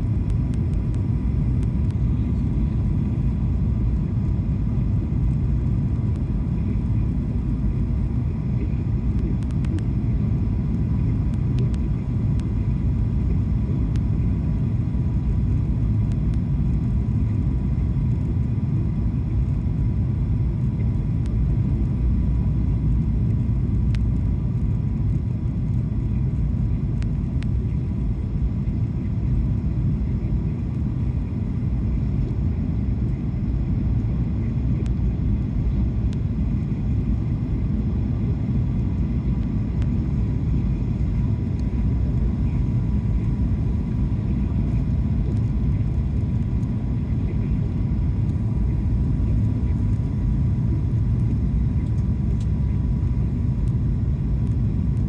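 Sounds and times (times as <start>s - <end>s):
airplane cabin engine rumble: 0.0s - 55.0s
faint steady whine: 0.0s - 55.0s.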